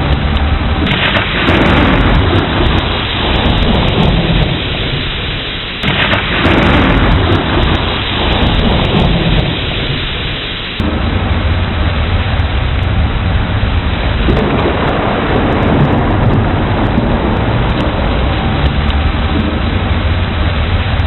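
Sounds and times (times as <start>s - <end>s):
heavy rain: 0.0s - 21.0s
thunder crashing and rumbling: 0.0s - 21.0s.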